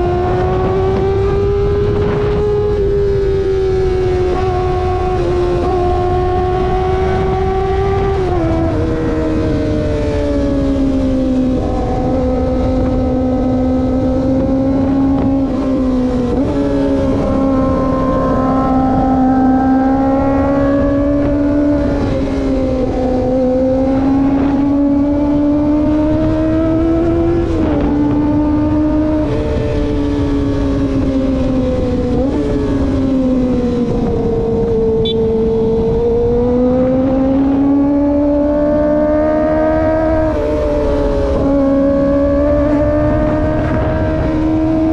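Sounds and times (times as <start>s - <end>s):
motorcycle engine at high revs: 0.0s - 44.9s
wind rush on microphone: 0.0s - 44.9s.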